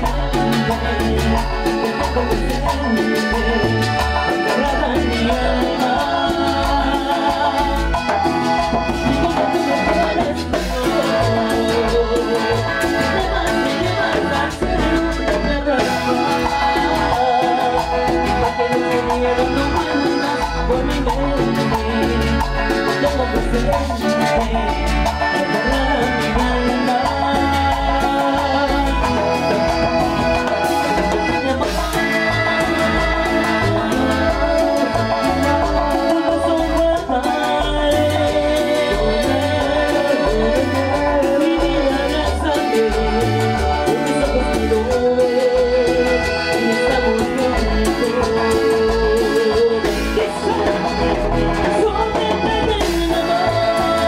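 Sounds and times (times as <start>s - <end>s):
accordion: 0.0s - 54.0s
bass line: 0.0s - 54.0s
keyboard: 0.0s - 54.0s
male lead vocal: 0.0s - 54.0s
percussion: 0.0s - 54.0s.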